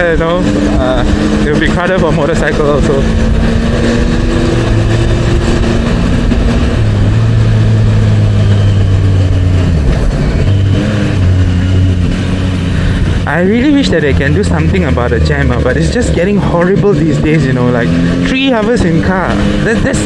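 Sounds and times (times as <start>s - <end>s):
motorcycle engine and exhaust: 0.0s - 20.0s
wind and road noise: 0.0s - 20.0s.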